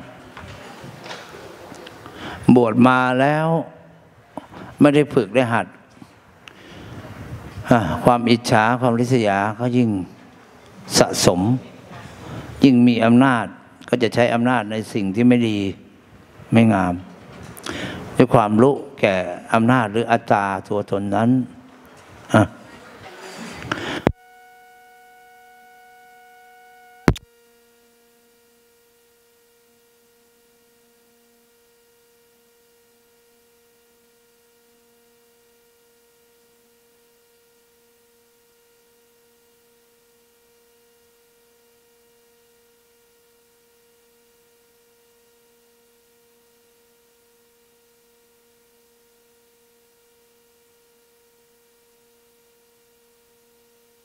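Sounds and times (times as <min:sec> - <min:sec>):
electronic hum: 0:01.6 - 0:54.0.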